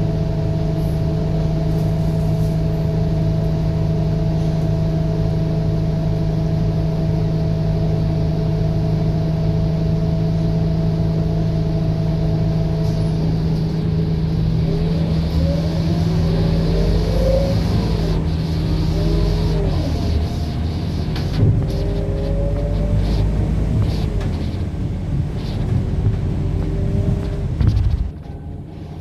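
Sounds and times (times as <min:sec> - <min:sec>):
bus diesel engine idling and revving: 0:00.0 - 0:29.0.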